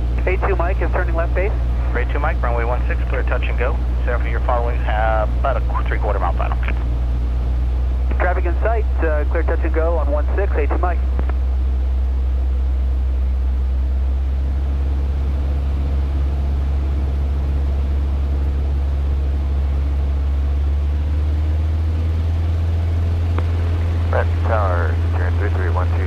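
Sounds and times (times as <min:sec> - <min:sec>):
light aircraft engine droning: 0:00.0 - 0:26.0.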